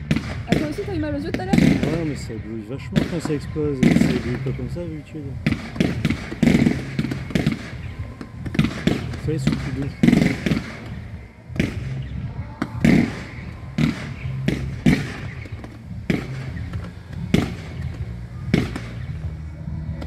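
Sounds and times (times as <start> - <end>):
firework bangs with echo: 0.0 - 19.4.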